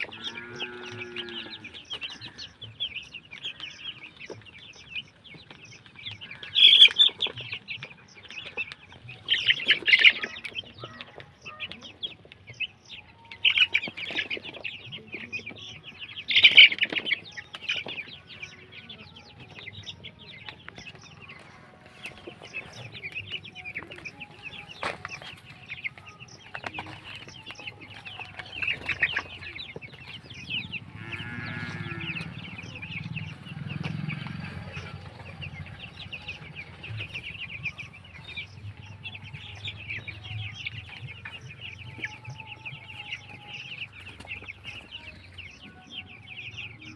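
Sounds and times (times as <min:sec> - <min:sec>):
chickens chirping and clucking: 0:00.0 - 0:46.9.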